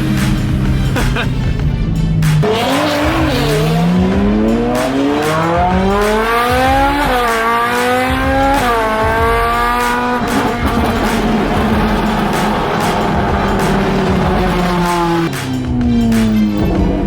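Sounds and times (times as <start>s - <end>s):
car engine accelerating hard: 0.0s - 17.0s
road noise: 0.0s - 17.0s.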